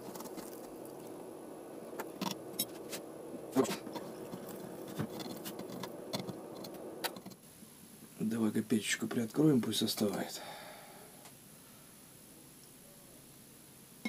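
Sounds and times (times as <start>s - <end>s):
electric furnace humming: 0.0s - 12.0s.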